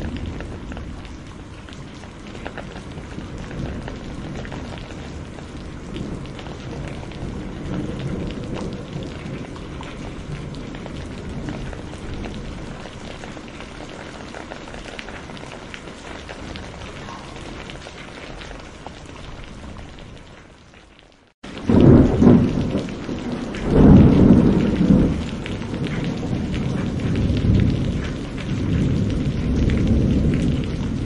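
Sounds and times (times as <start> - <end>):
rumble of thunder: 0.0 - 20.2, 21.5 - 31.0
heavy rain falling: 0.0 - 31.0.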